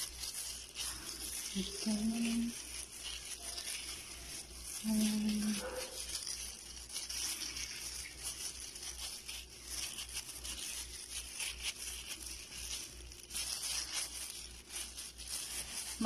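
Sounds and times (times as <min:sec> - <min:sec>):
plastic glove crinkling: 0:00.0 - 0:16.0
soft wet squishing: 0:00.0 - 0:16.0.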